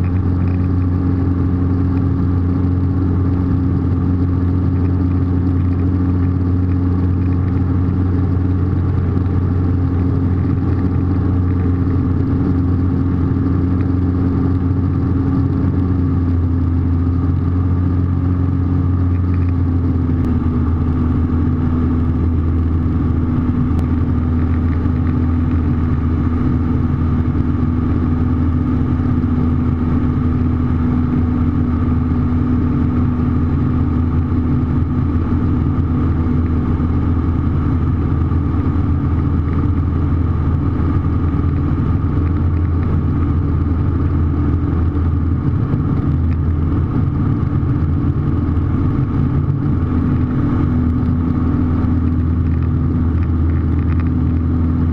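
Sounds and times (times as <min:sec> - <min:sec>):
aircraft engine and propeller droning: 0:00.0 - 0:54.9.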